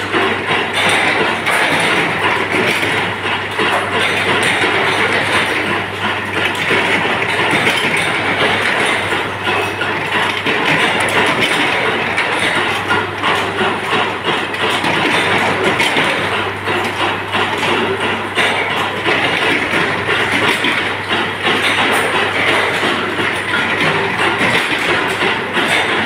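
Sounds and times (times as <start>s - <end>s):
machinery rattling clatter: 0.0s - 26.0s.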